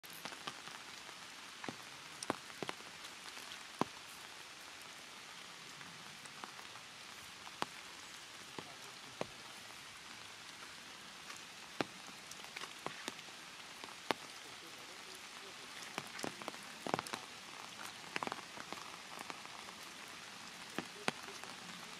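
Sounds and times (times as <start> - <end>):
rain pattering on leaves: 0.0 - 21.9
steady rain hiss: 0.0 - 21.9
sharp drips: 0.1 - 21.9.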